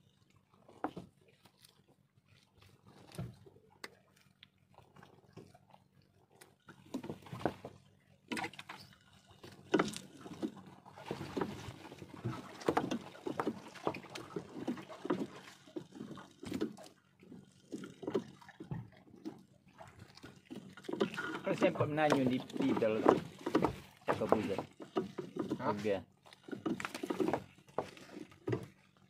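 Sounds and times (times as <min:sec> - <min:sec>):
water sloshing: 0:00.0 - 0:29.0.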